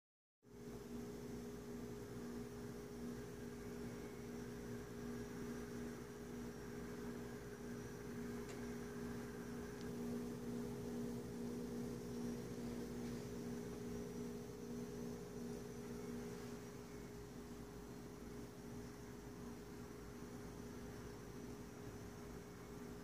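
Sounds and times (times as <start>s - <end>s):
electric hum: 0.5s - 23.0s
soft hiss: 0.6s - 23.0s.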